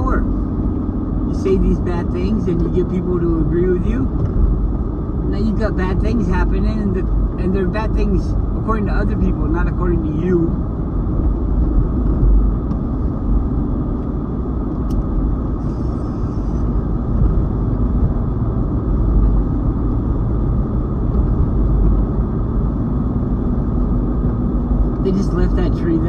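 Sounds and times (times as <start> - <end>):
car engine: 0.0 - 26.0
road noise: 0.0 - 26.0.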